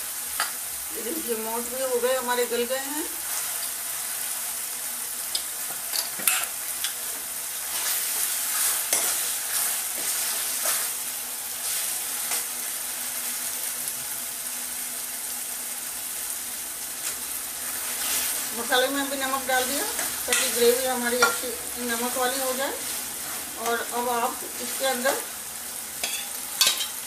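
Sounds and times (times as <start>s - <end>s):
sauce sizzling in a pan: 0.0s - 27.0s.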